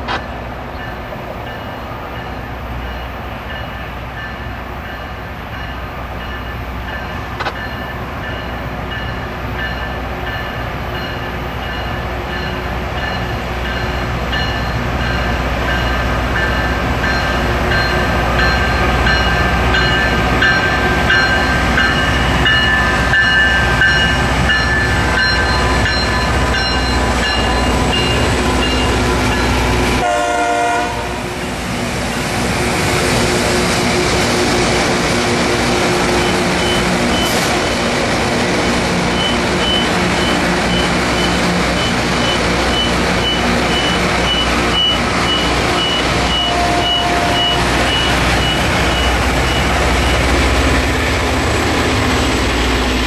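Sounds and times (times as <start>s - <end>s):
train engines rumbling: 0.0s - 53.0s.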